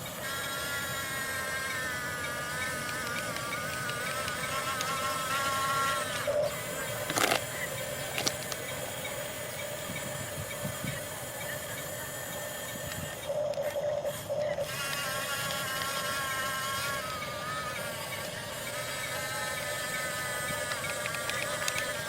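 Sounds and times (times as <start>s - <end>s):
small electric motors whirring: 0.1s - 8.9s, 12.0s - 22.0s.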